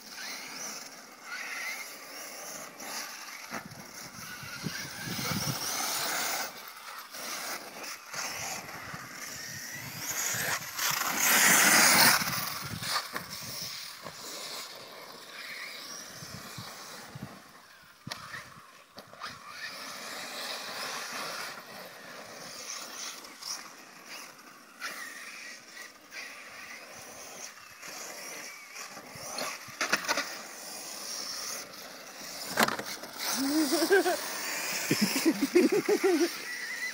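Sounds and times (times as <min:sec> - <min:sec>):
rc cars whirring: 0:00.0 - 0:36.9.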